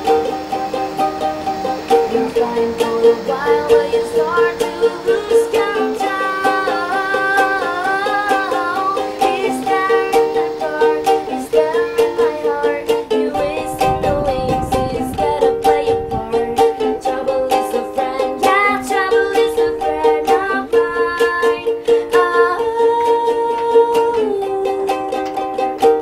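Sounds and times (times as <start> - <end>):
plucked-string music with beat: 0.0 - 26.0.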